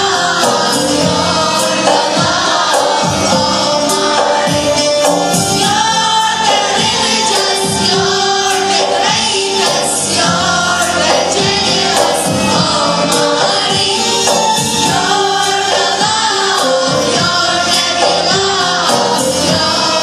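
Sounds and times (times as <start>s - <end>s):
keyboard: 0.0s - 20.0s
regular beat: 0.0s - 20.0s
woman singing lead: 0.0s - 20.0s
youth choir singing: 0.0s - 20.0s.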